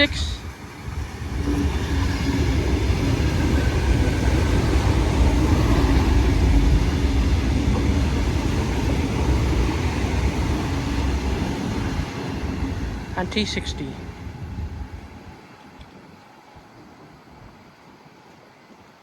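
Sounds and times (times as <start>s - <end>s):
train wheels rumbling on rail: 0.0s - 17.8s
electric train hum: 0.0s - 19.0s.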